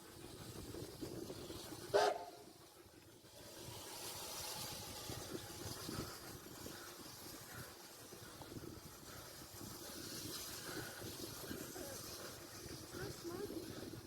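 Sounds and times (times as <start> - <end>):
steam locomotive hissing: 0.0 - 14.0.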